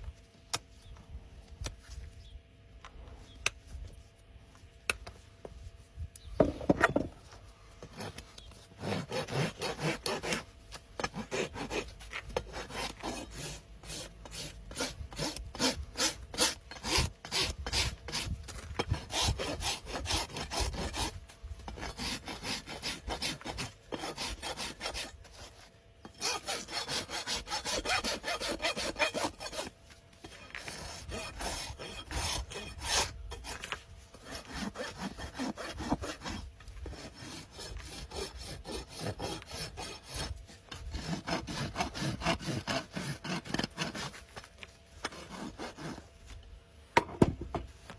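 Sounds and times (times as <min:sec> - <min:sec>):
rasp filing a hoof: 0:07.8 - 0:46.4.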